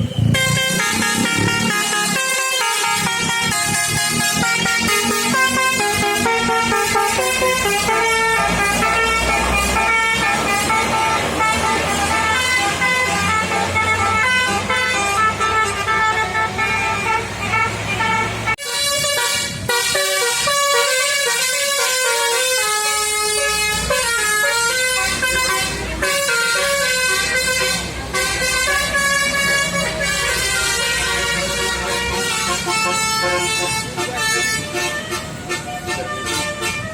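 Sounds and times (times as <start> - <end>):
melodic bus horn: 0.0 - 36.9.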